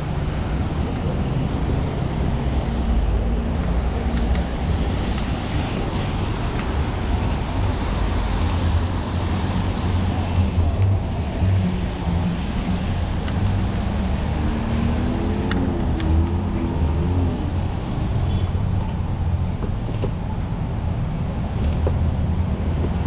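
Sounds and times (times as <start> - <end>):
engine rumble of passing vehicles: 0.0 - 23.0
road noise: 0.0 - 23.0.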